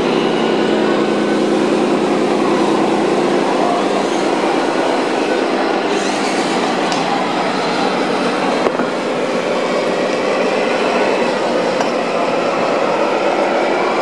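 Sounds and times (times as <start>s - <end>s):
model truck mechanical drone: 0.0s - 14.0s.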